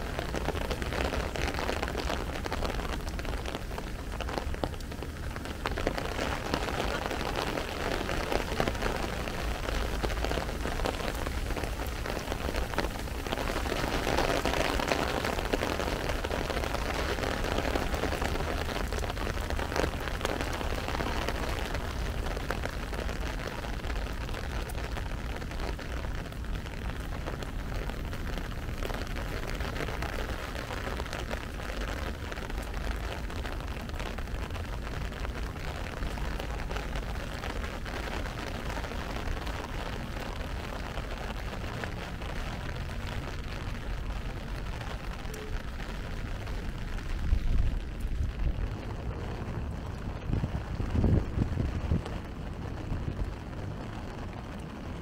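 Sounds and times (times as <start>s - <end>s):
rain patter and hiss: 0.0s - 55.0s.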